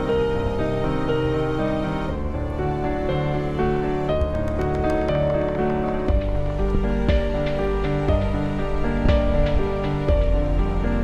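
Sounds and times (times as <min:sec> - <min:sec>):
instrumental music with steady beat: 0:01.1 - 0:11.0.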